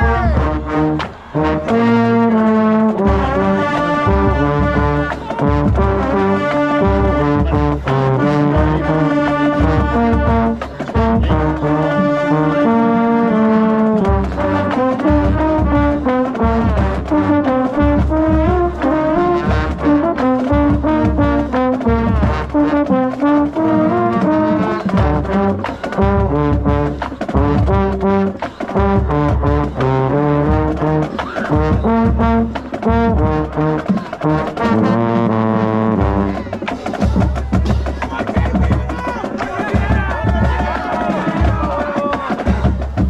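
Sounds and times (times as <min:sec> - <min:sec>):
baritone horn: 0:00.0 - 0:37.8
trombone fanfare: 0:00.0 - 0:43.0.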